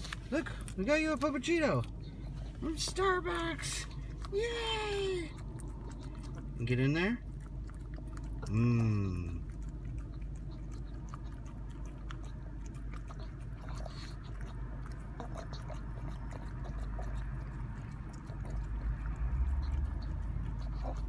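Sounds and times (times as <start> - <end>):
dog lapping and licking: 0.0 - 21.0
steady low hum: 0.0 - 21.0.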